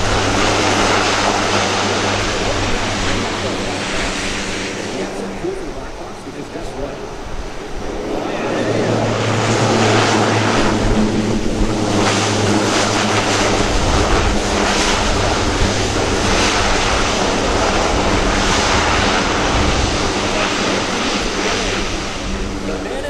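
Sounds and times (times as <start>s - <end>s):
turboprop engines droning: 0.0s - 23.0s.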